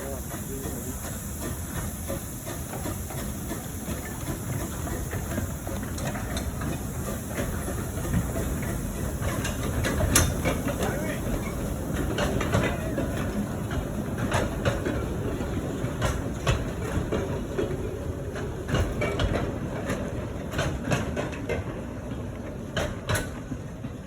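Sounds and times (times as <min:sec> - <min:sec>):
train rumbling on track: 0:00.0 - 0:24.0
wheels clacking on rails: 0:00.0 - 0:24.0.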